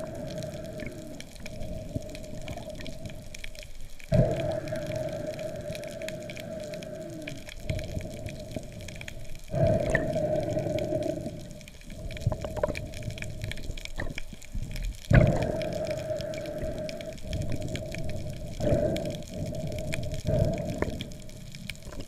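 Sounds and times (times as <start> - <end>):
faint underwater clicks: 0.0 - 22.0
underwater hiss and hum: 0.0 - 22.0.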